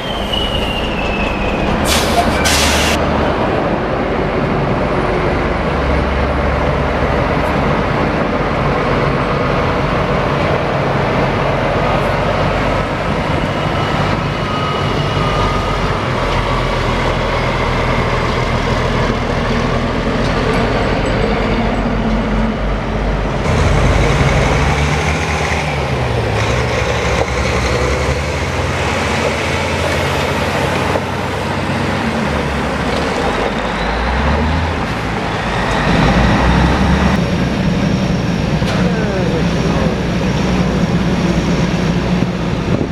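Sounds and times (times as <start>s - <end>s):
diesel truck engines: 0.0s - 42.9s
road traffic noise: 0.0s - 42.9s.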